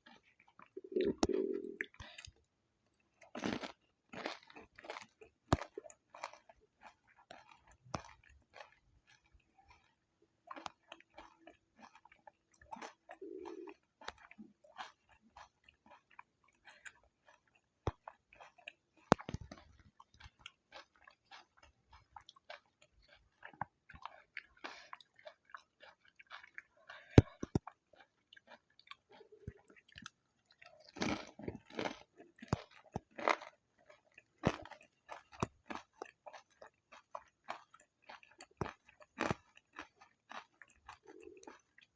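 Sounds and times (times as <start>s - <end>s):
chewing and crunching crisp shells: 0.0s - 41.9s.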